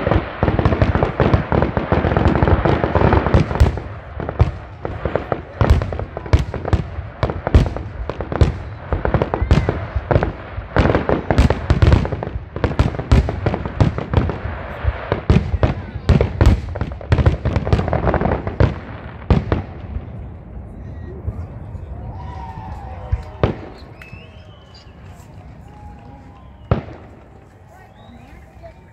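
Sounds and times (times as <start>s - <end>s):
fireworks booming and crackling: 0.0s - 28.9s.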